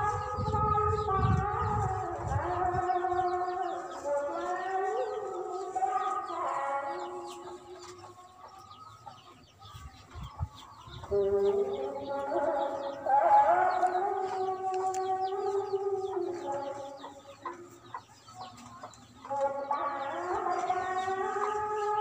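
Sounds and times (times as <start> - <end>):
roosters crowing: 0.0 - 9.2, 10.5 - 22.0
small birds chirping: 0.0 - 22.0.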